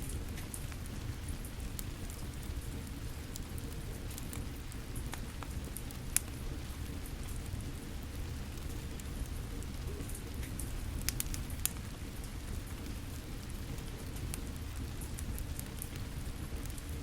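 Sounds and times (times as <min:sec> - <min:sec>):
fire pops: 0:00.0 - 0:17.0
steady rain: 0:00.0 - 0:17.0
wood fire crackling: 0:00.0 - 0:17.0.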